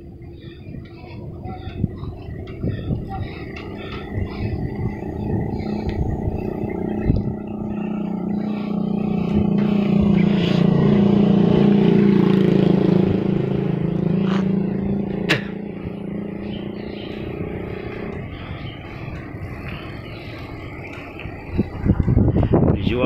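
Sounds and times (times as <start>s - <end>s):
small engine running: 0.0s - 22.5s.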